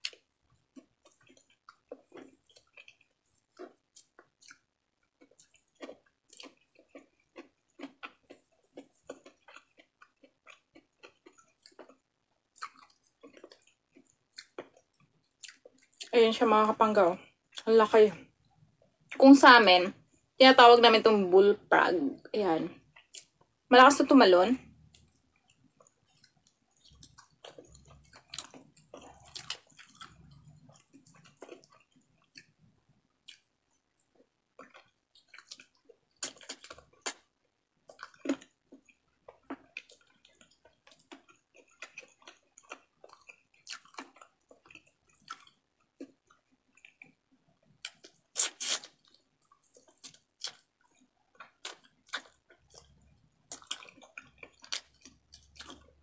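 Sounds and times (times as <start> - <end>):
person chewing wet mouth sounds: 0.0 - 16.1, 22.8 - 23.4, 24.7 - 56.0.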